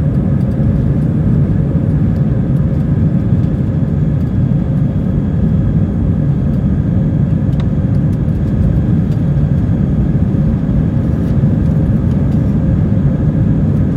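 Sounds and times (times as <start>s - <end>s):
aircraft cabin engine roar: 0.0s - 13.9s.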